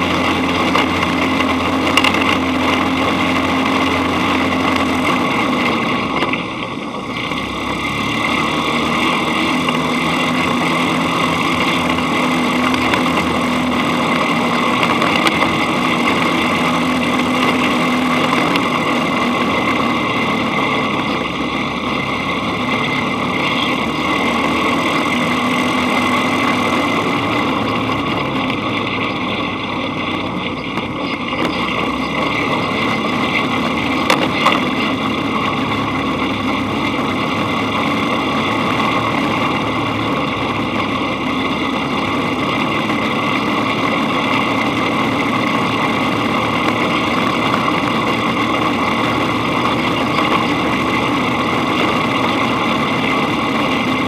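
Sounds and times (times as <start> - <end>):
dune buggy engine running: 0.0 - 54.0.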